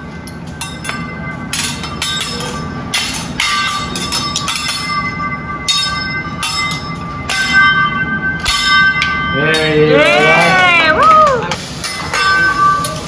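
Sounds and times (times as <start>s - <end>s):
metal spatula clanging on griddle: 0.2s - 10.7s, 11.3s - 13.0s.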